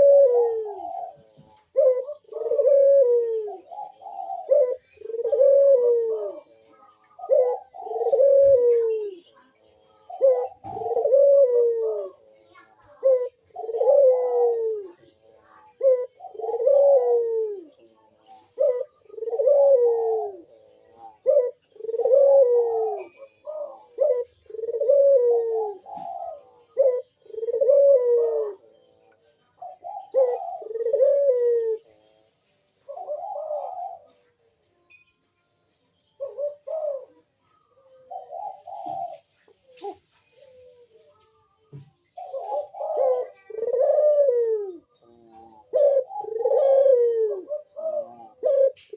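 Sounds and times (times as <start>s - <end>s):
dove cooing: 0.0s - 34.6s, 36.2s - 48.9s.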